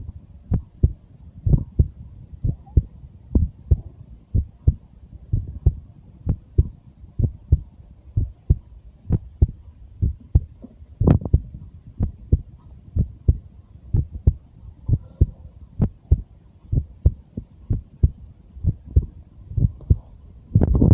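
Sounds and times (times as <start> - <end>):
heartbeat thumping: 0.5 - 20.9.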